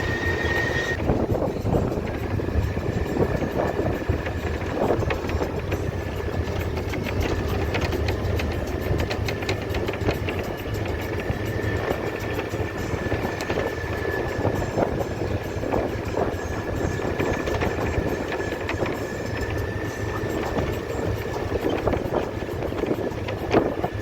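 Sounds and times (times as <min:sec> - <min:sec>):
thin steady whine: 0:00.0 - 0:24.0
vehicle low rumble: 0:00.0 - 0:24.0
small rattles and clicks: 0:00.9 - 0:24.0.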